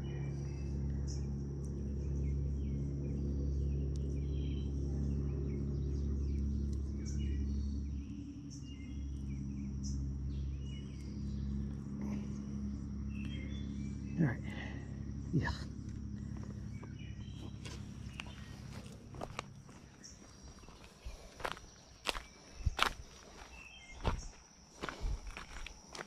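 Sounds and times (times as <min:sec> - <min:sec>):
insect drone: 0:00.0 - 0:26.0
low steady hum: 0:00.0 - 0:26.0.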